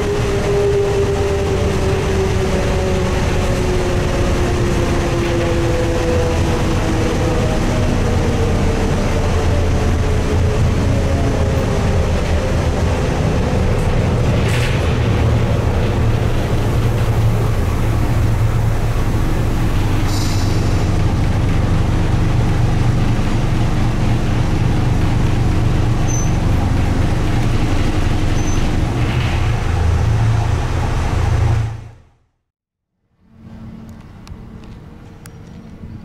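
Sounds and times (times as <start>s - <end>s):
bus diesel engine running: 0.0s - 32.2s.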